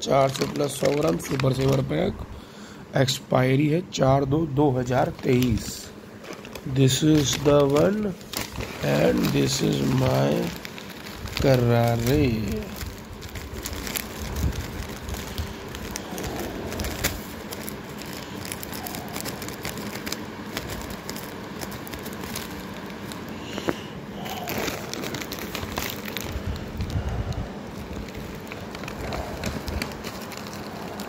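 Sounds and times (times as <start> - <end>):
plastic packets crinkling: 0.0 - 2.5, 4.3 - 31.0.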